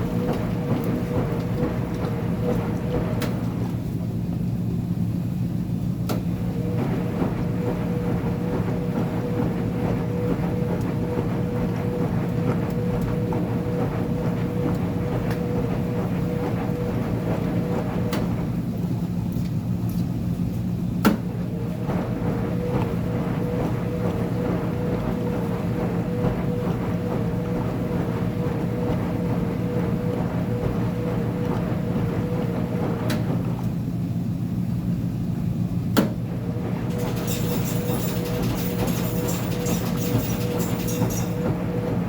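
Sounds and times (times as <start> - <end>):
washer motor hum: 0.0 - 42.0
washer whine: 0.0 - 42.0.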